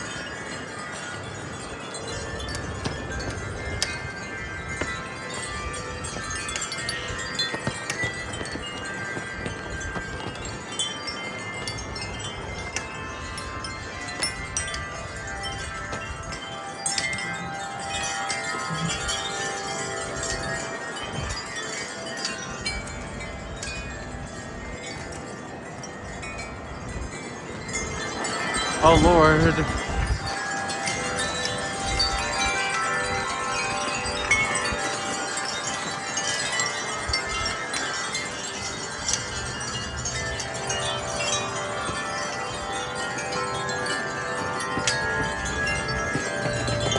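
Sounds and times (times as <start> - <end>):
low wind rumble: 0.0 - 46.9
wind chimes ringing: 0.0 - 46.9.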